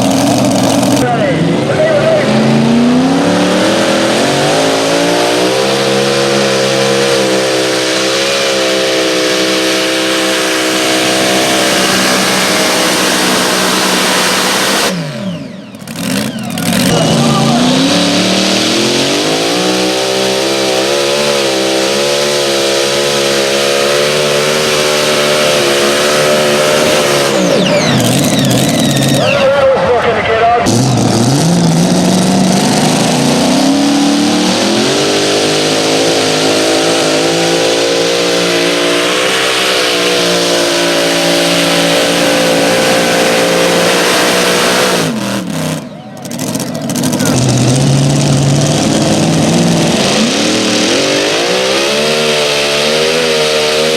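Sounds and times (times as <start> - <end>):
engine revving at full throttle: 0.0 - 29.6, 30.5 - 53.9.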